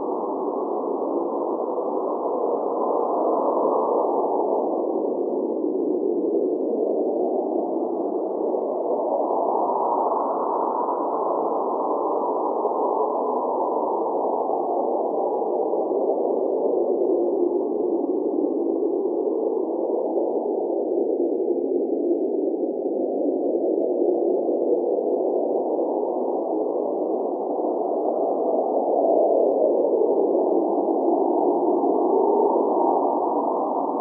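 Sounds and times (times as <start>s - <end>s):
blizzard wind blowing: 0.0s - 34.0s.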